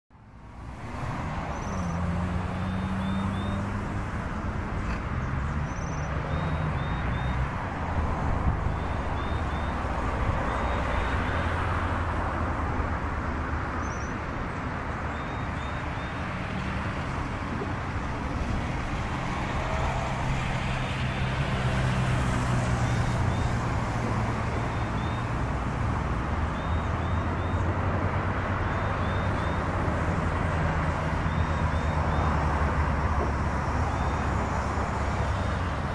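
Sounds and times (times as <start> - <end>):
road traffic: 0.1 - 35.9.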